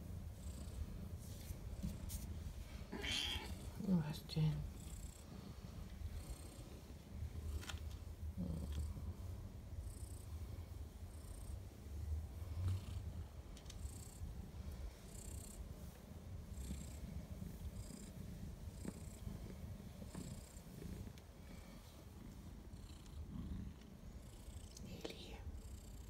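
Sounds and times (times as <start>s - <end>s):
cat purring: 0.0s - 26.0s
soft brushing of fur: 0.0s - 26.0s.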